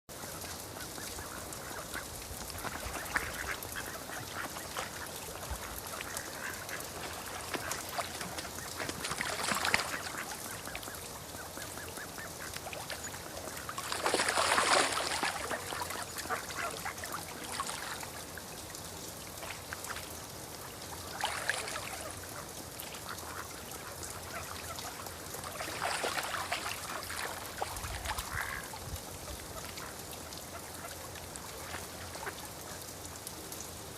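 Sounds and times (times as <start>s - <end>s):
steady rain: 0.1s - 25.8s, 26.4s - 33.9s.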